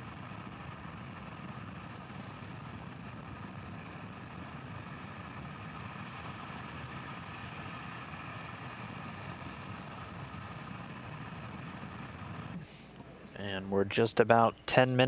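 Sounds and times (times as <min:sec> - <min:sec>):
steady low rumbling: 0:00.0 - 0:15.0.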